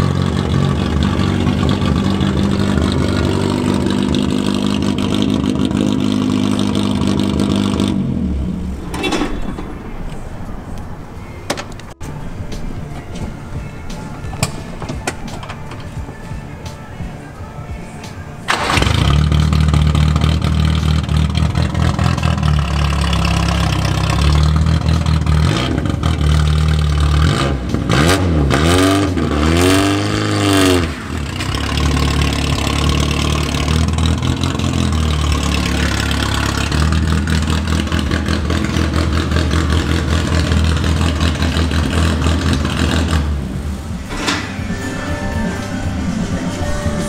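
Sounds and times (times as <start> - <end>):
car engine idling and revving: 0.0 - 16.9, 18.5 - 47.0.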